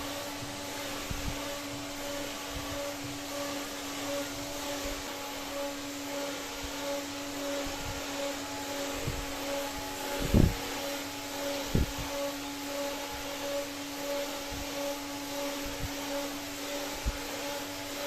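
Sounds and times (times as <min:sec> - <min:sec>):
air rushing from fan blades: 0:00.0 - 0:18.0
fan motor hum: 0:00.0 - 0:18.0.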